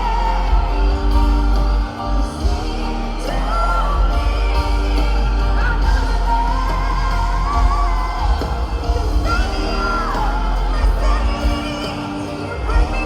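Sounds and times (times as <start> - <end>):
band playing: 0.0 - 13.0
crowd whooping: 0.0 - 13.0
woman singing a pop ballad: 0.0 - 13.0.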